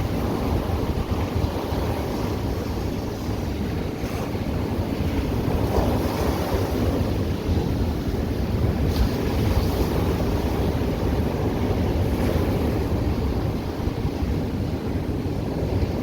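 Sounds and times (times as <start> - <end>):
low wind rumble on microphone: 0.0 - 16.0
ocean surf washing on beach: 0.0 - 16.0.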